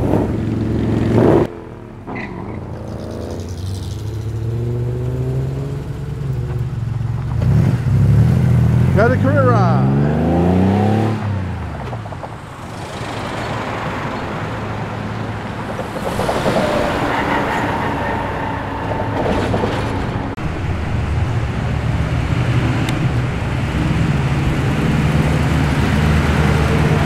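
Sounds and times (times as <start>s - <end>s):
car engines driving past: 0.0s - 27.0s.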